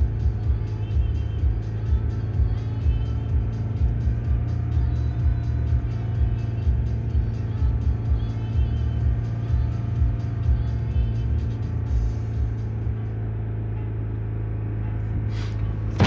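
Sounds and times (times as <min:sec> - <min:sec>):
car engine droning: 0:00.0 - 0:16.0
music playing: 0:00.0 - 0:16.0.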